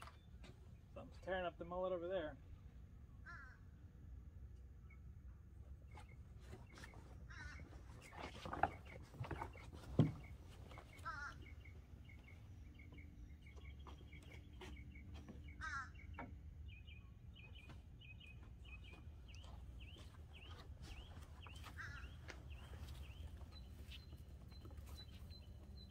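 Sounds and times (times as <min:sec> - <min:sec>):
birds chirping: 0:00.0 - 0:03.8, 0:04.7 - 0:25.9.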